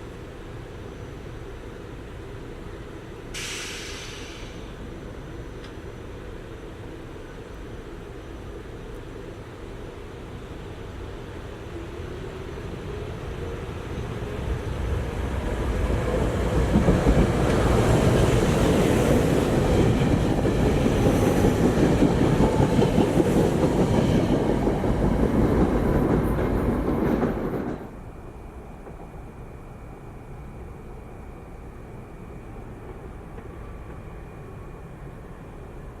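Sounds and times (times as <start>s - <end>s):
electric train passing: 0.0s - 36.0s.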